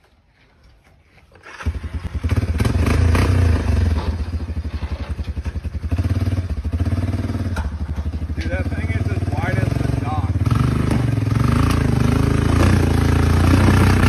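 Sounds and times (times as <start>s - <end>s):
engine revving: 1.4s - 14.0s.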